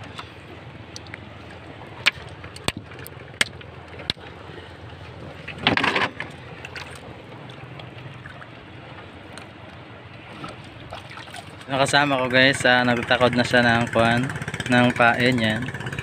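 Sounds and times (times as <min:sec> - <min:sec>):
water lapping against boat: 0:00.0 - 0:16.0.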